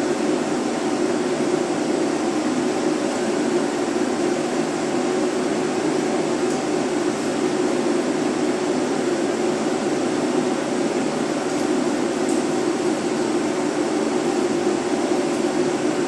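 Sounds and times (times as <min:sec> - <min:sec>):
ventilation fan humming: 0:00.0 - 0:16.0.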